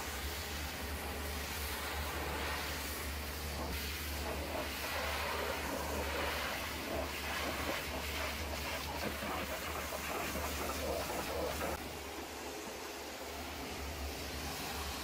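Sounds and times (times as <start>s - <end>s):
pressure washer spraying on metal: 0.0s - 11.8s, 12.6s - 15.0s.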